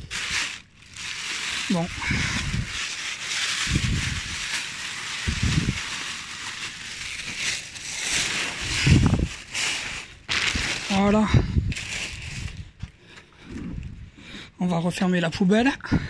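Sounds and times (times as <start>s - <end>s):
plastic bags crinkling: 0.0s - 12.9s.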